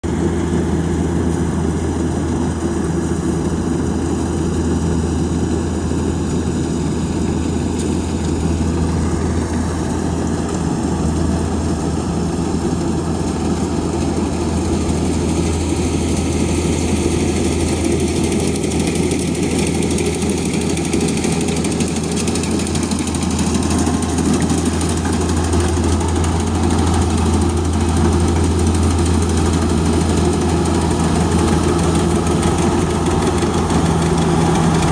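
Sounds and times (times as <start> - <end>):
combine harvester engine droning: 0.0 - 34.9.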